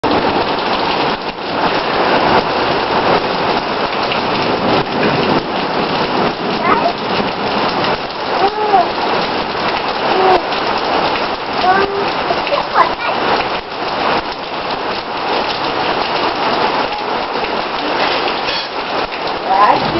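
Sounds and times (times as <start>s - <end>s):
heavy rain pattering: 0.0s - 19.9s.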